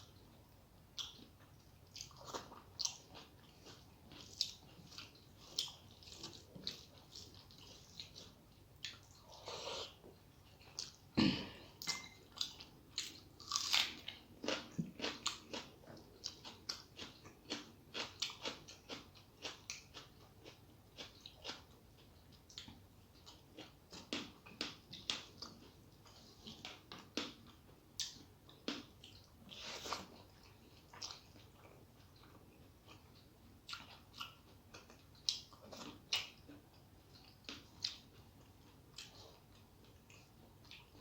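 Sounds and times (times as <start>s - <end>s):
person chewing food: 0.9s - 41.0s.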